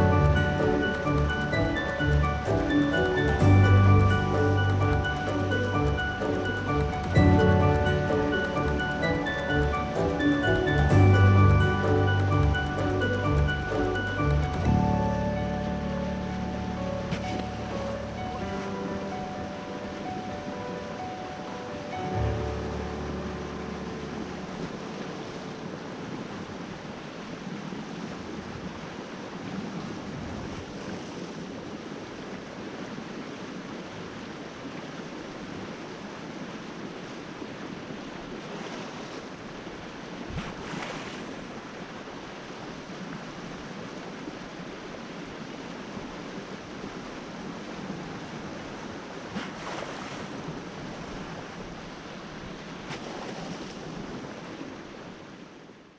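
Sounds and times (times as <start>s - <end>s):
water rushing: 0.0s - 55.9s
wind: 0.0s - 55.9s.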